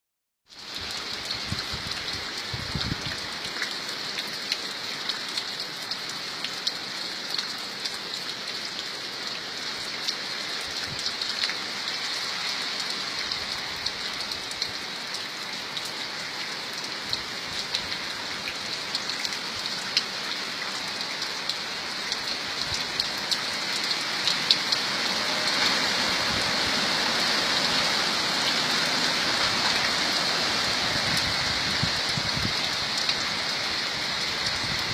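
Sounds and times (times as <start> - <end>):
rain falling: 0.5 - 34.9.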